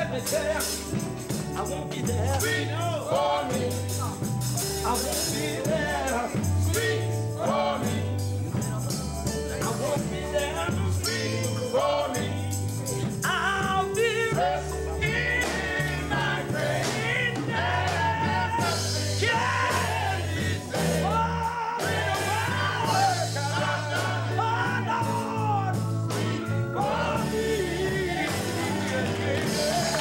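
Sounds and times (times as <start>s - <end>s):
bass notes: 0.0s - 30.0s
male group singing gospel: 0.0s - 30.0s.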